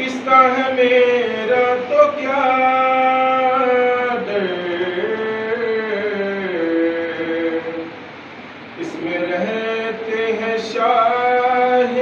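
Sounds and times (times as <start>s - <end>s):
man singing unaccompanied: 0.0s - 8.1s, 8.8s - 12.0s.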